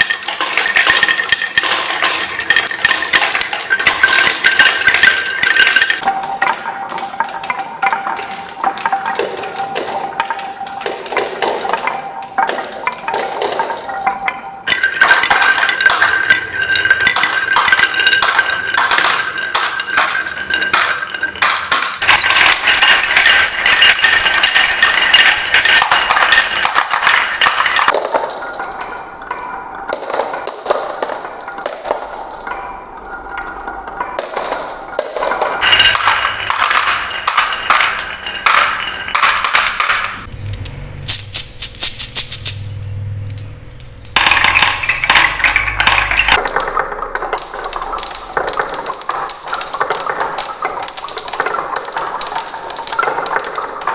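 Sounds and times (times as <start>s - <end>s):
marbles rolling on wooden track: 0.0s - 28.7s, 33.2s - 53.9s.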